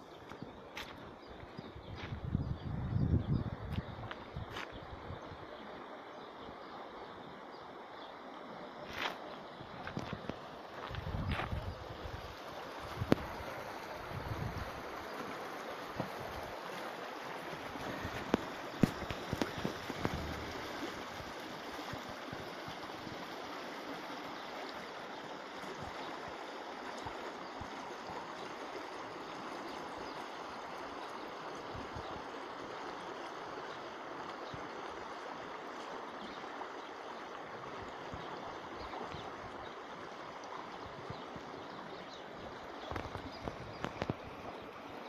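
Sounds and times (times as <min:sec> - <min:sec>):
stream water rushing over riffles: 0:03.2 - 0:45.0.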